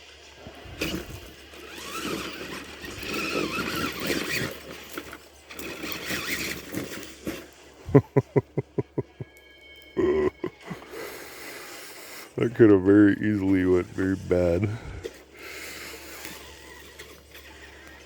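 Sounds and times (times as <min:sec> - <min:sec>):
toy truck motor whining: 0:00.4 - 0:08.0, 0:08.8 - 0:18.0.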